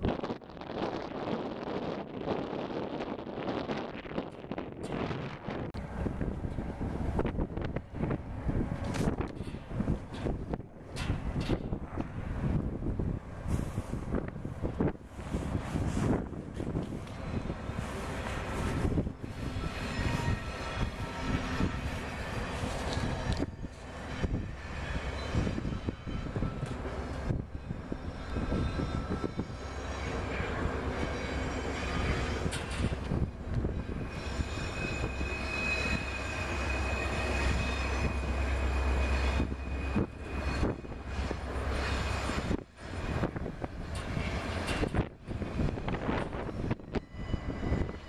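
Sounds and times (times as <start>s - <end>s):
wind buffeting microphone: 0.0s - 48.0s
distant diesel locomotives: 4.4s - 48.0s.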